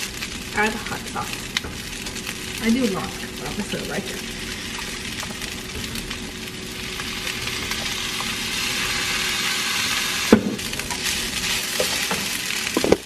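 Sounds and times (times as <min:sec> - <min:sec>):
rice sizzling in a frying pan: 0:00.0 - 0:13.0.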